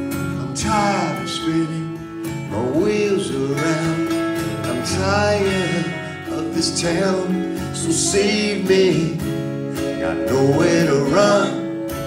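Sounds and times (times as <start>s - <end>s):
gliding guitar lead line: 0.0s - 12.0s
strummed acoustic guitar chords: 0.0s - 12.0s.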